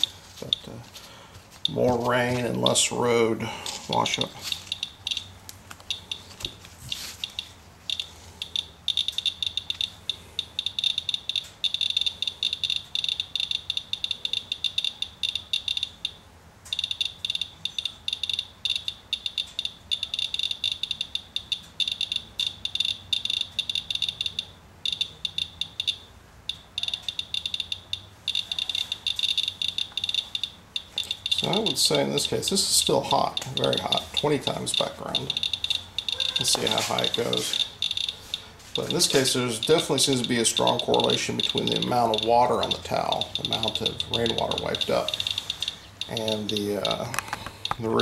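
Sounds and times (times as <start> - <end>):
geiger counter clicking: 0.0 - 0.8, 3.9 - 48.0.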